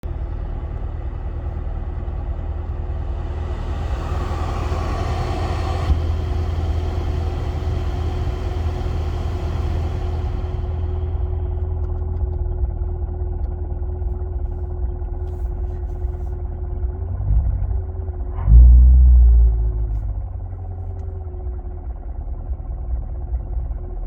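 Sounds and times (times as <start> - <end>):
car engine low rumble: 0.0 - 24.0
thin steady engine tone: 0.0 - 24.0.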